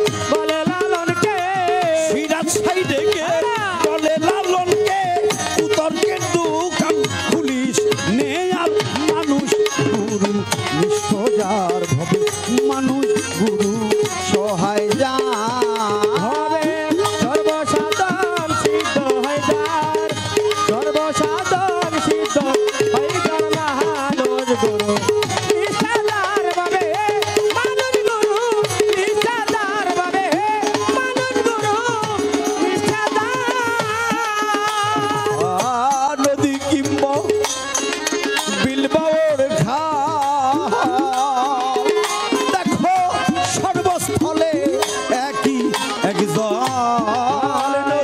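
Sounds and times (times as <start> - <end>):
hand drum rhythm: 0.0 - 48.0.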